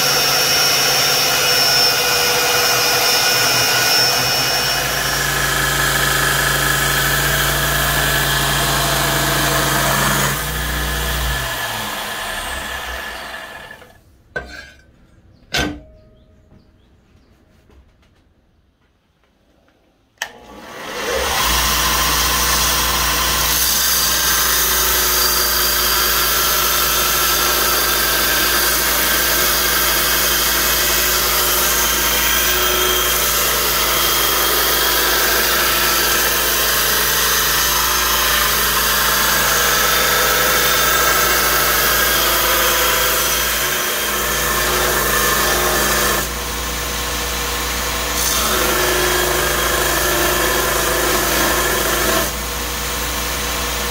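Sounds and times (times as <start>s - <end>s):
belt grinder running: 0.0s - 14.0s, 20.2s - 53.9s.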